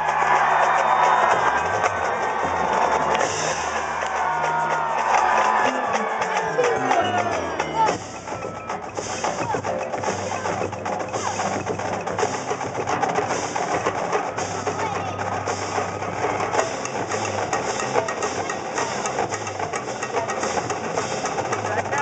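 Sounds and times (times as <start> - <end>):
bass drum: 0.0 - 22.0
crowd chatter: 0.0 - 22.0.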